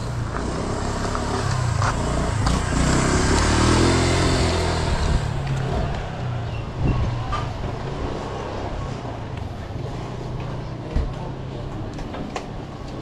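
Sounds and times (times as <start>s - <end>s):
street hum: 0.0s - 13.0s.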